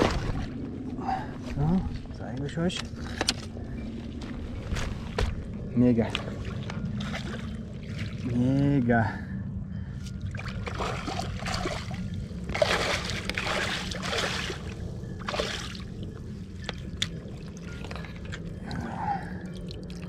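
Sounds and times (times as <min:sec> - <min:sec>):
water splashing and sloshing: 0:00.0 - 0:09.2, 0:09.9 - 0:20.0.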